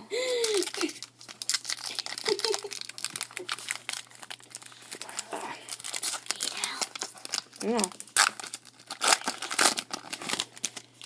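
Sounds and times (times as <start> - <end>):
foil wrapper crinkling: 0.3 - 11.0.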